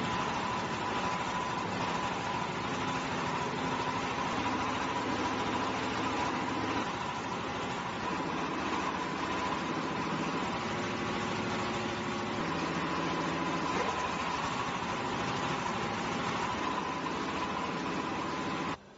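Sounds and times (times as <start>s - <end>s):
diesel engine running: 0.0s - 18.8s.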